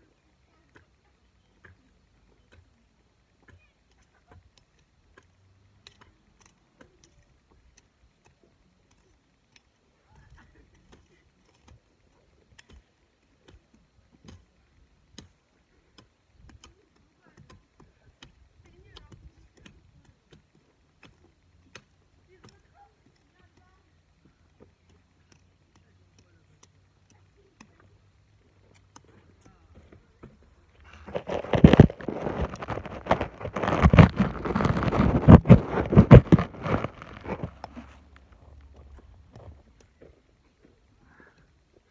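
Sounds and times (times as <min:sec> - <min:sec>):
hand tool clicking in soil: 0:00.4 - 0:41.9.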